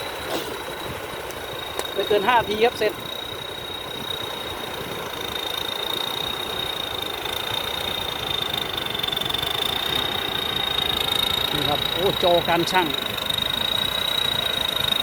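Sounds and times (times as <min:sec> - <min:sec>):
combine harvester engine running: 0:00.0 - 0:15.0
high-pitched whine: 0:00.0 - 0:15.0.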